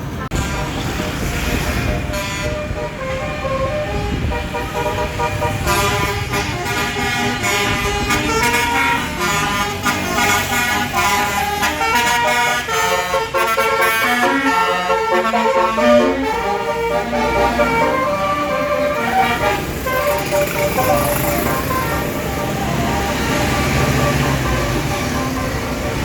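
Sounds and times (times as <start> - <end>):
bus engine rumble: 0.0 - 26.0
musical air horn playing tune: 0.3 - 26.0.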